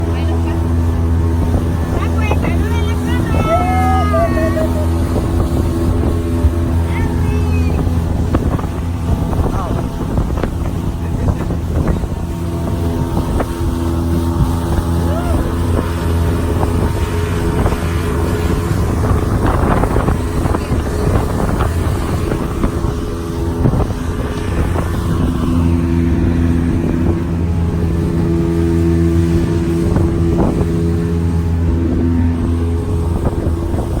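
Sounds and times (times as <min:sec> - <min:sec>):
motorboat engine running: 0:00.0 - 0:34.0
wind on microphone: 0:00.0 - 0:34.0.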